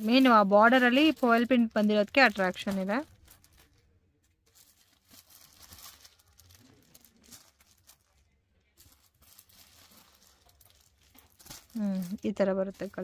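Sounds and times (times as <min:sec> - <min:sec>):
fabric rustling and crinkling: 0:00.0 - 0:13.0.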